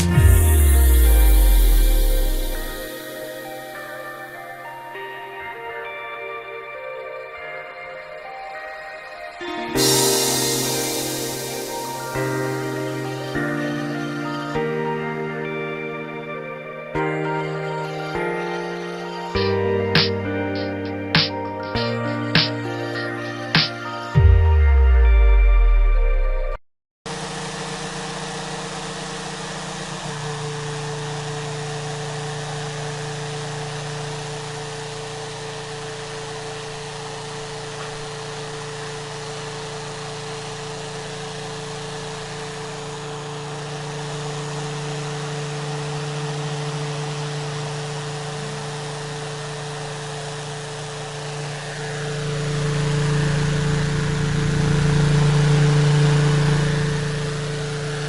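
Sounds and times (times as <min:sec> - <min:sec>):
small motor humming: 0:00.0 - 0:06.4, 0:09.4 - 0:25.4, 0:27.1 - 0:58.0.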